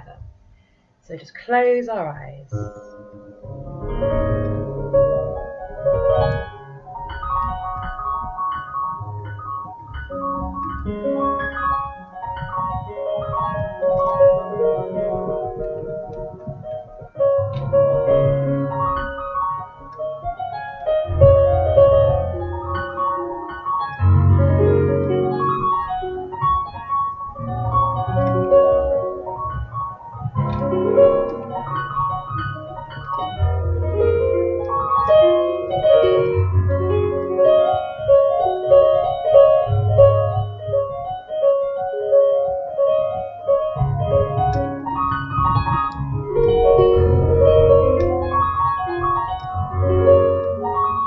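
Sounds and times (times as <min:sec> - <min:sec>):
calm piano music: 0:02.4 - 0:51.0
held low bass notes: 0:02.5 - 0:41.3, 0:43.5 - 0:51.0.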